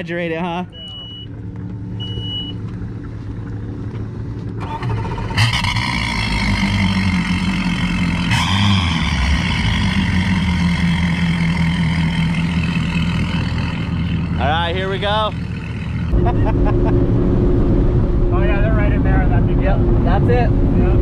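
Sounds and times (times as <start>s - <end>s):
outboard engines idling: 0.0s - 17.4s.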